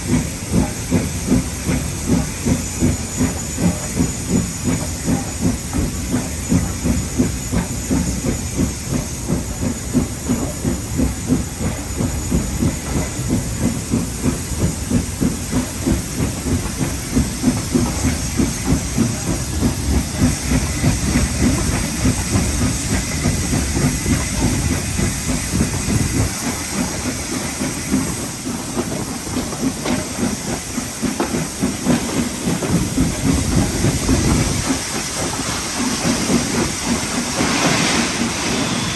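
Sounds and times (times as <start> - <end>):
carriages rumbling on rails: 0.0 - 38.9
hissing steam: 0.0 - 38.9
steam locomotive exhaust beats: 0.0 - 38.9.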